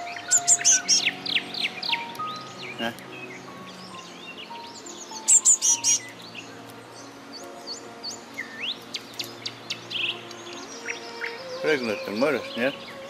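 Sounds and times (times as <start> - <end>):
faint background music: 0.0 - 13.0
songbirds chirping: 0.0 - 13.0.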